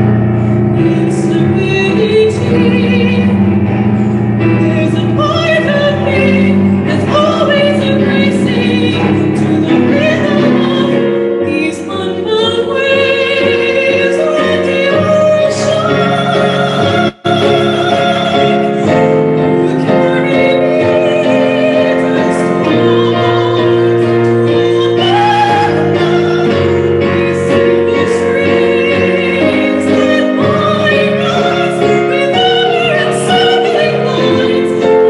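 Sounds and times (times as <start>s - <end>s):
keyboard: 0.0s - 35.0s
soprano singing operatic: 4.5s - 35.0s.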